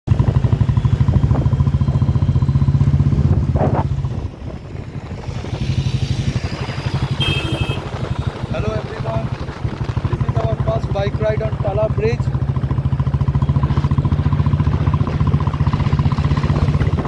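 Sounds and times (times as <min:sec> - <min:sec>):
motorcycle engine running: 0:00.1 - 0:17.0.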